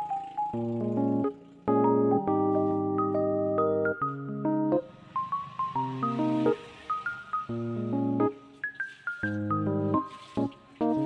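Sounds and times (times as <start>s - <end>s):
keyboard chords: 0.0s - 11.0s.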